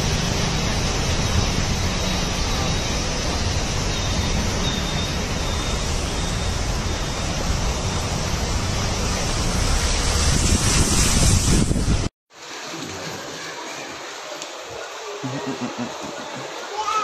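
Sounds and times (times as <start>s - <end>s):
floodwater rushing and washing: 0.0s - 17.0s
wind: 0.0s - 17.0s.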